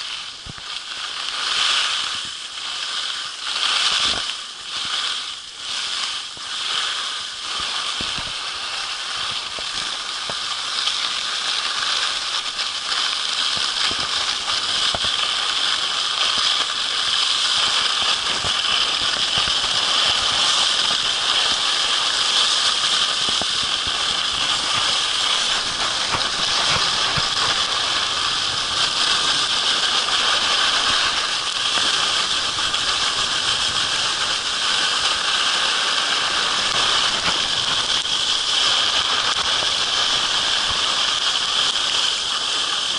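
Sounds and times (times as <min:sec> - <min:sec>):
skis sliding over snow: 0:00.0 - 0:42.9.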